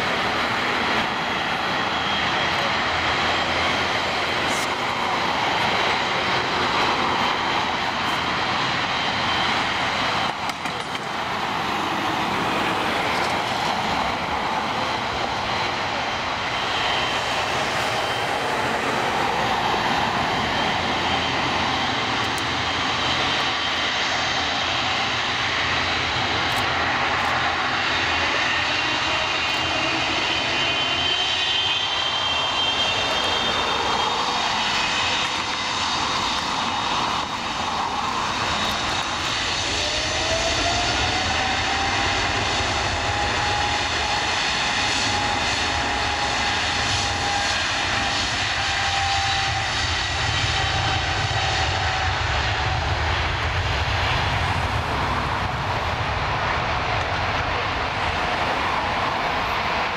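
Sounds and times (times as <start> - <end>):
airliner engines running: 0.0 - 59.9
engine whine: 0.0 - 59.9.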